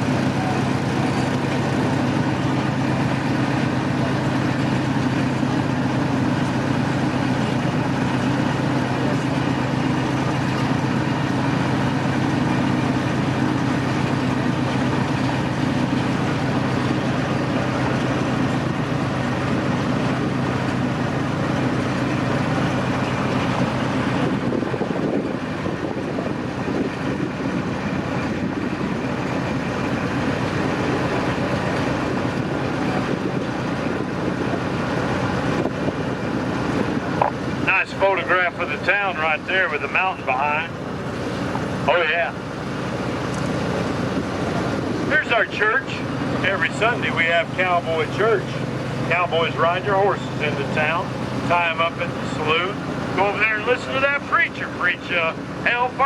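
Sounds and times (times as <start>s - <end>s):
train engine drone: 0.0s - 56.0s.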